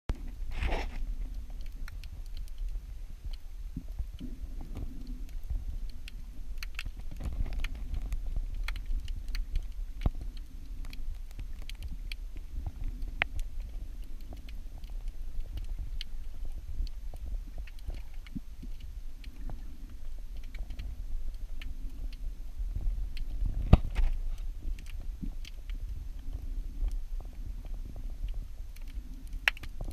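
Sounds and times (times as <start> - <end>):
sharp clicks and crackles: 0.1 - 29.9
underwater low rumble: 0.1 - 29.9.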